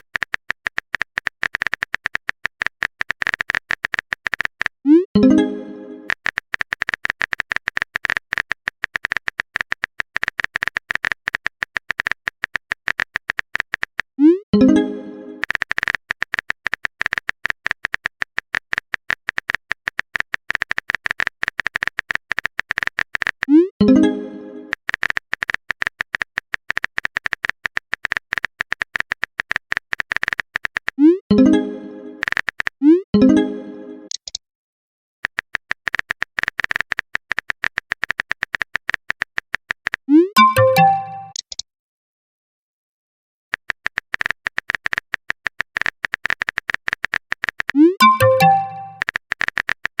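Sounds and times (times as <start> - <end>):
keyboard typing clicks: 0.0 - 33.4, 34.0 - 34.4, 35.2 - 41.6, 43.5 - 50.0.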